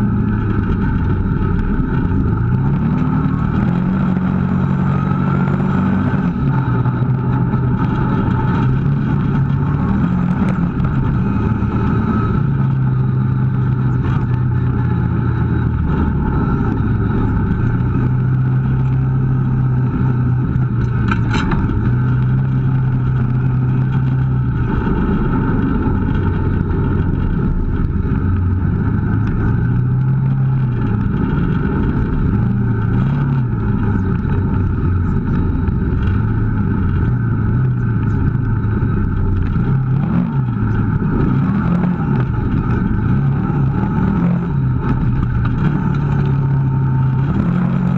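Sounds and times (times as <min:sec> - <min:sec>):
engine revving: 0:00.0 - 0:47.9.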